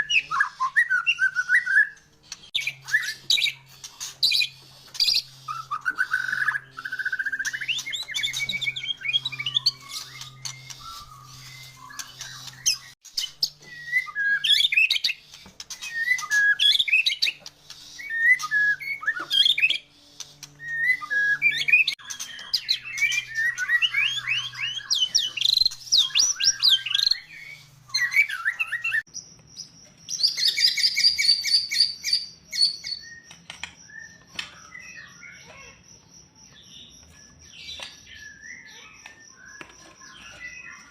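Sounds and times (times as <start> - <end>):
bird song with whistles and trills: 0.0 - 35.8, 36.4 - 40.9.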